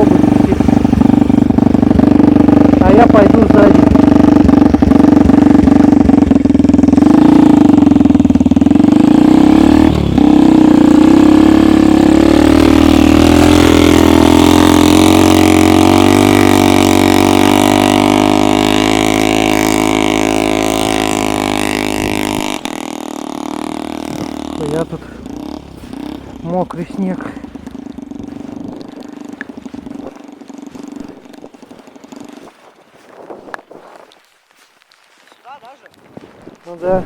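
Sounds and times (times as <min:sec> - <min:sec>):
snowmobile engine running: 0:00.0 - 0:34.2.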